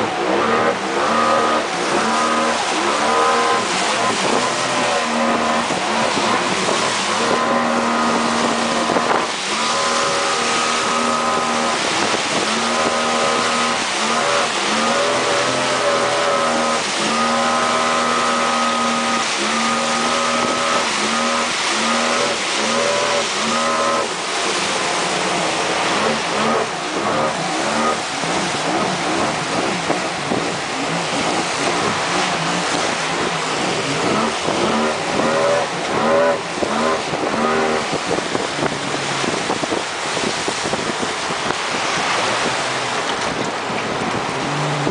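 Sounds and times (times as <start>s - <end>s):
outboard motor revving: 0.0s - 44.9s
water rushing against hull: 0.0s - 44.9s.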